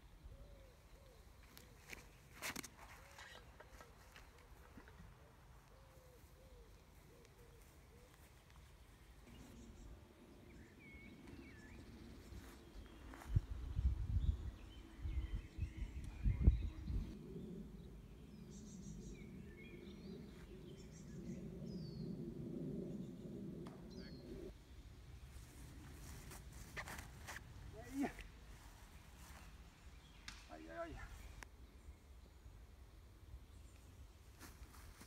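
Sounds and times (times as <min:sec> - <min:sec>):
small birds chirping: 0:00.0 - 0:32.6
low outdoor noise: 0:00.0 - 0:35.0.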